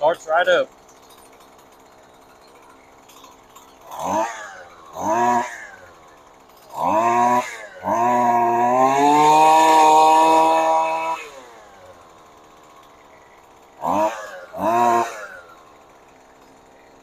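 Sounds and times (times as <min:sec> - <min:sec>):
string trimmer engine revving: 0:00.0 - 0:17.0.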